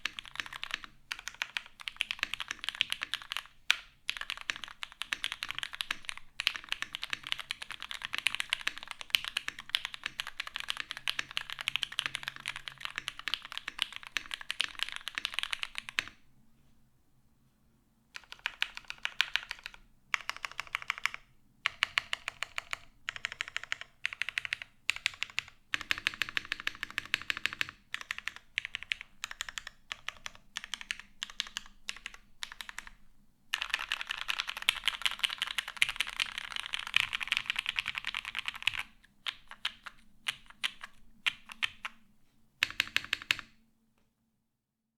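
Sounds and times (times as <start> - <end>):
mechanical keyboard typing: 0.0 - 16.2, 18.2 - 42.0, 42.6 - 43.5.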